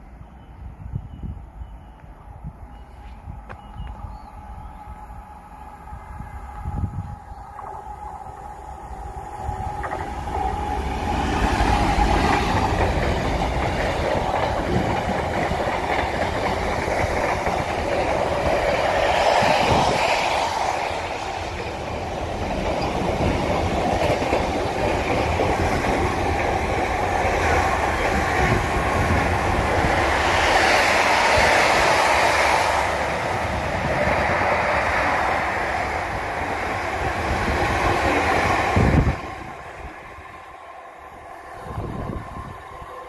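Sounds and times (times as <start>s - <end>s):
freight train passing: 0.0s - 43.0s.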